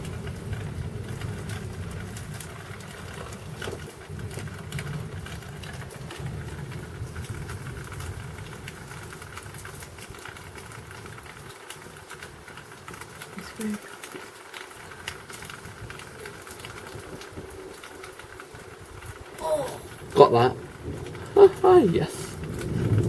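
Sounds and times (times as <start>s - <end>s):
thunder rumbling: 0.0s - 13.6s, 14.8s - 23.0s
small ticks: 0.0s - 19.4s
rain pattering: 0.0s - 23.0s.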